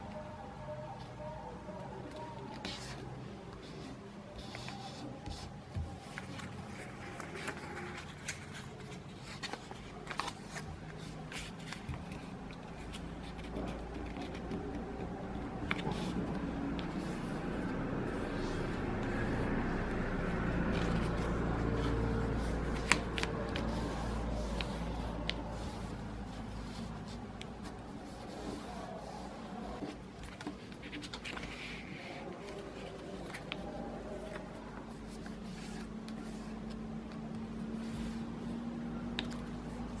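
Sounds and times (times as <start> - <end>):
paper rustling and crinkling: 2.0 - 38.4.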